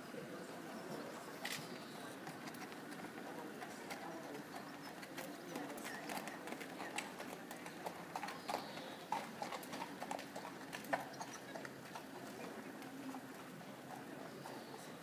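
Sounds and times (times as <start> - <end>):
horse hoofbeats: 2.1 - 15.0.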